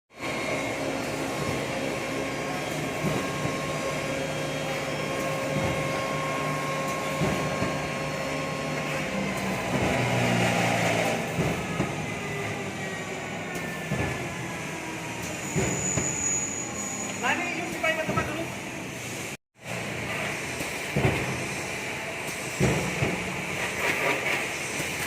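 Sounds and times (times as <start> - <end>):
machine humming and whining: 0.1 - 25.0.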